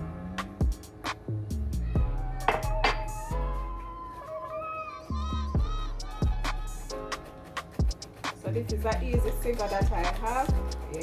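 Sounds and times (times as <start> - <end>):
background music with a beat: 0.0 - 4.0, 5.1 - 11.0.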